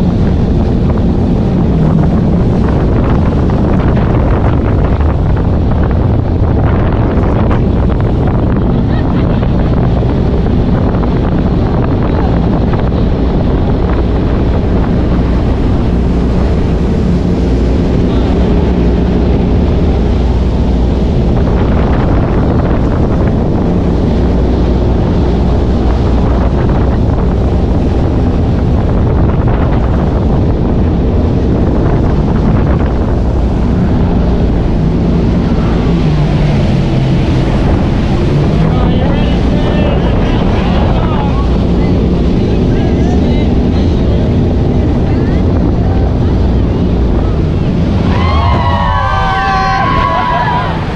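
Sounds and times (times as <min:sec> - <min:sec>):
jet ski engine running: 0:00.0 - 0:50.9
water rushing: 0:00.0 - 0:50.9
wind buffeting microphone: 0:00.0 - 0:50.9.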